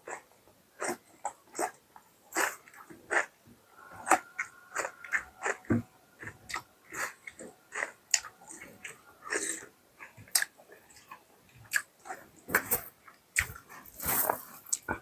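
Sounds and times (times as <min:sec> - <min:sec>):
wet chewing and lip-smacking: 0:00.0 - 0:14.0.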